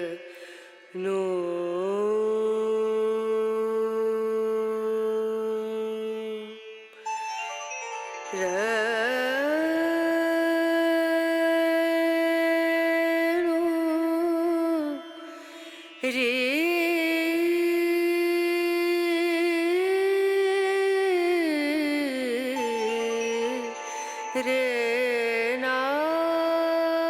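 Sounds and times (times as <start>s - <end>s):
voice singing long ornamented notes: 0.0s - 27.0s.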